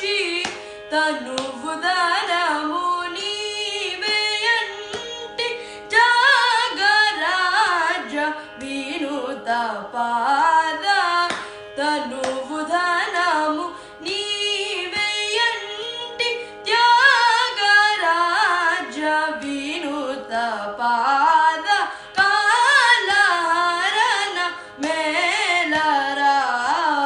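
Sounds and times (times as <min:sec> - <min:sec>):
boy singing classical music: 0:00.0 - 0:27.0.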